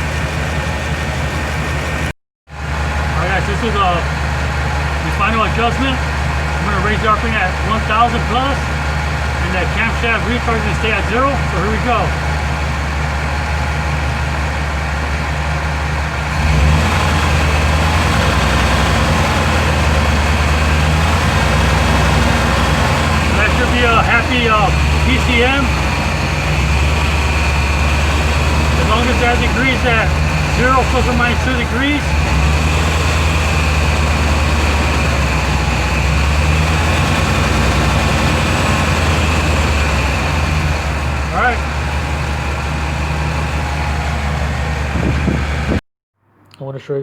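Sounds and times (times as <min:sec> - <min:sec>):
car engine idling: 0:00.0 - 0:45.8.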